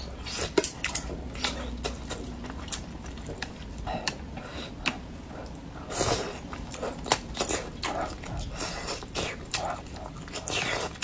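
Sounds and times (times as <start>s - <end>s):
wet chewing and lip smacks: 0.2s - 11.0s.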